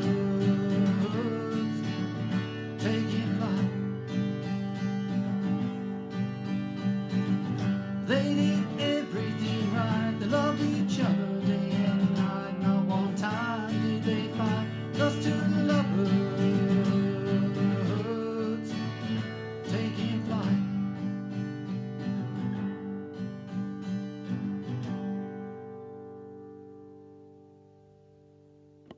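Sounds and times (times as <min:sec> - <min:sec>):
strummed acoustic guitar: 0:00.0 - 0:28.9.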